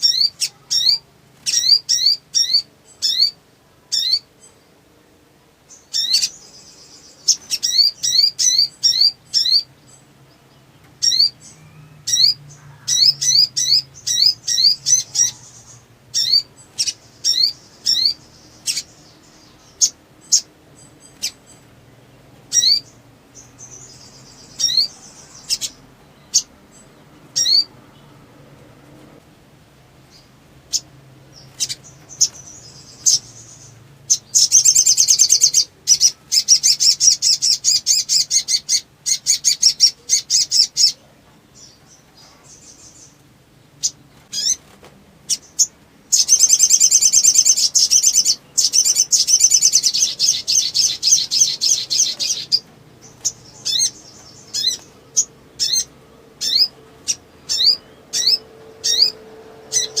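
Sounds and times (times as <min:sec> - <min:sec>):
songbird trilling and chirping: 0:00.0 - 0:04.7, 0:05.6 - 0:28.2, 0:30.0 - 1:00.0.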